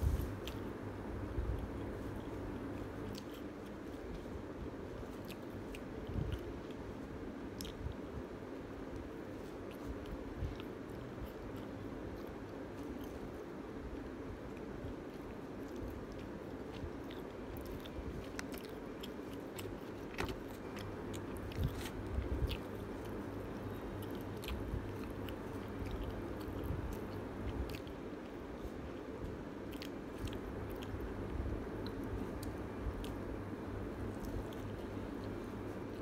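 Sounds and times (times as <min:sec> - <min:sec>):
low background hum: 0:00.0 - 0:36.0
person chewing food: 0:00.2 - 0:00.8, 0:01.4 - 0:36.0.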